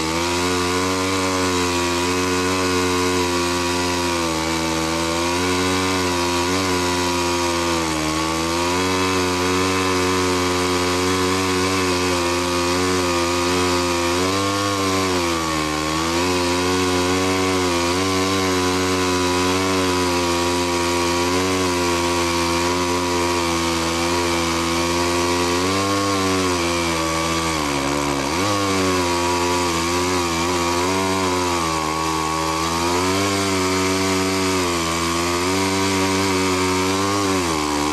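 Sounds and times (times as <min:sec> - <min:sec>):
chainsaw cutting through log: 0:00.0 - 0:37.9.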